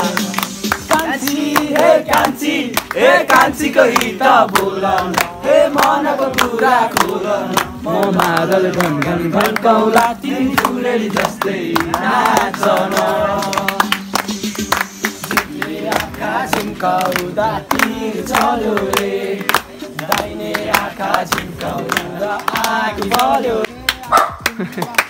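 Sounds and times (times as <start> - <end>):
group singing: 0.0 - 23.8
sharp hand claps: 0.0 - 25.0.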